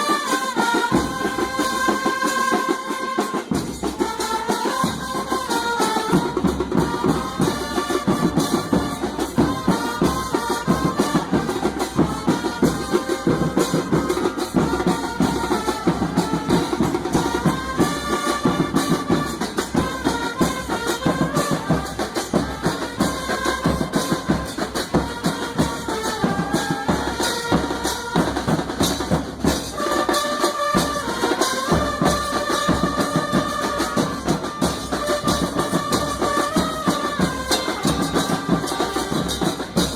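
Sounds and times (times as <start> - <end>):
music with fast drum beat: 0.0 - 39.9.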